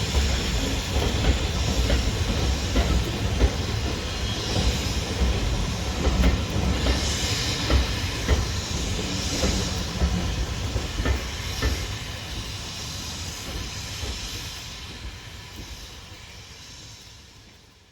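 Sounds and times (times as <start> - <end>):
steam hiss: 0.0 - 17.9
steam locomotive exhaust beats: 0.0 - 17.9.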